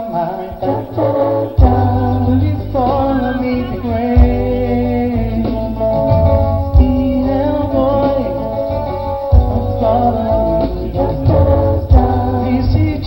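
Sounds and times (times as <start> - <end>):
guitar: 0.0 - 13.0
person singing: 0.0 - 13.0
beat with sharp accents: 0.6 - 13.0
heavy bass line: 0.6 - 13.0.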